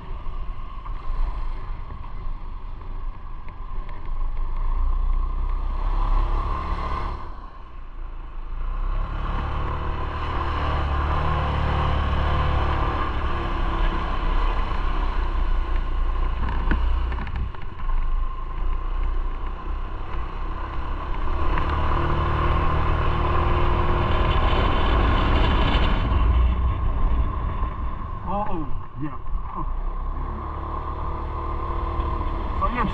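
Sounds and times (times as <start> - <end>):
wind and road noise: 0.0 - 32.9.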